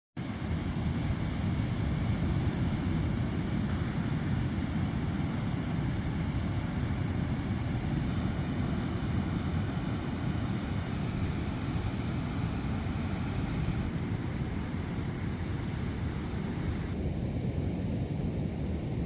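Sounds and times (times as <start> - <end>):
sea surf rumble: 0.2 - 19.0
wind on microphone: 0.2 - 19.0.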